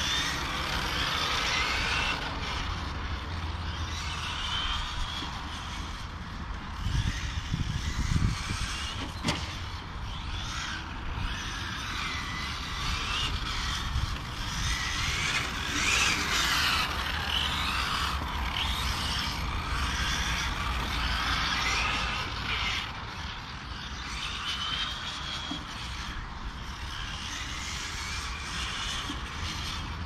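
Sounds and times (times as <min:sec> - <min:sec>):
rc car motors whining: 0:00.0 - 0:30.0.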